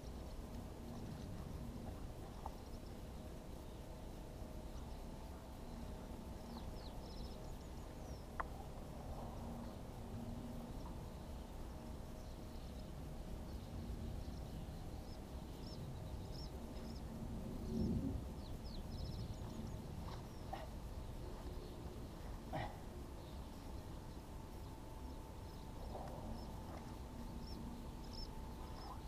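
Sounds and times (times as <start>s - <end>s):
small birds chirping: 0.0s - 29.0s
steady low rumble: 0.0s - 29.0s.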